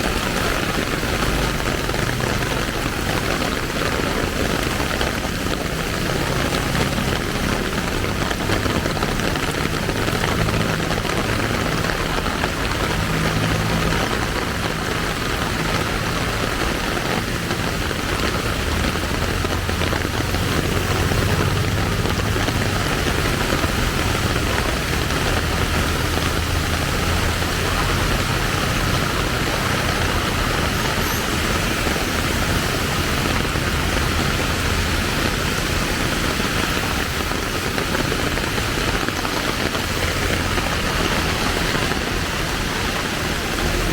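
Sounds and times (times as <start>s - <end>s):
rain hissing: 0.0s - 43.9s
traffic engines humming: 0.0s - 43.9s.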